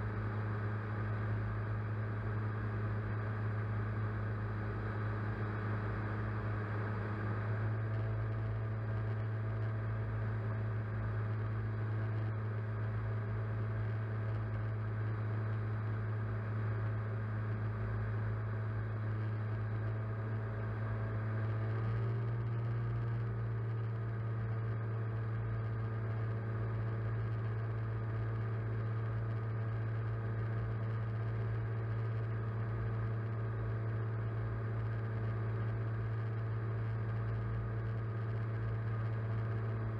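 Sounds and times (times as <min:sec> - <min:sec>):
drone motors humming and whining: 0:00.0 - 0:39.9.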